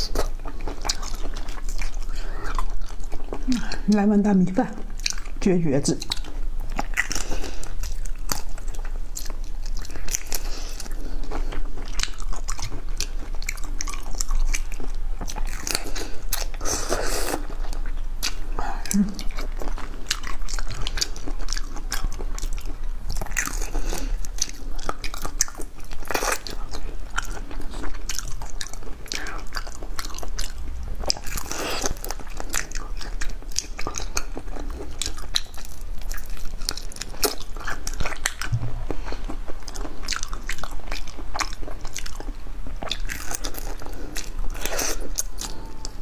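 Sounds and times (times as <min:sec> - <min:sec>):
person chewing shrimp shells: 0:00.0 - 0:04.0, 0:04.8 - 0:05.4, 0:06.0 - 0:46.0.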